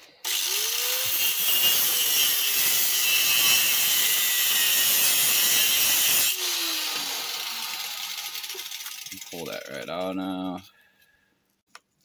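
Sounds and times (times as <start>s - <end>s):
angle grinder cutting steel: 0.2s - 9.9s.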